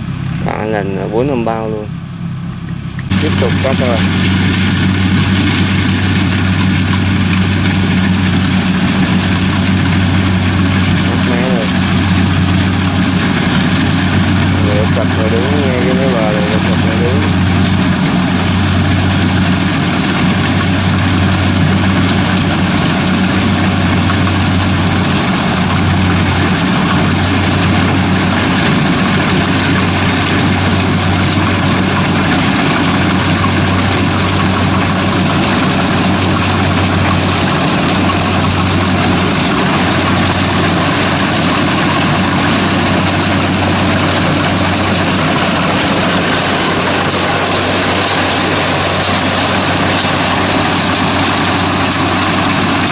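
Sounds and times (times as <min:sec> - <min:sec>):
combine harvester engine and threshing: 0:00.0 - 0:52.9.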